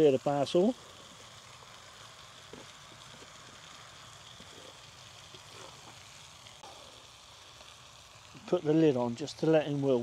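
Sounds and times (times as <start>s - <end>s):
food sizzling in pot: 0.0s - 10.0s.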